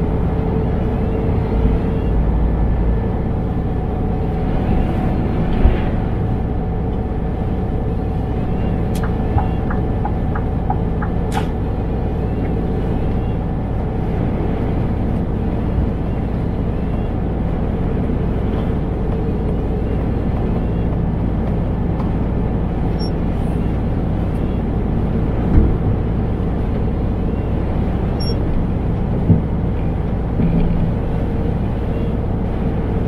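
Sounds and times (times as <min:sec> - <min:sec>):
truck engine and road rumble: 0:00.0 - 0:33.0.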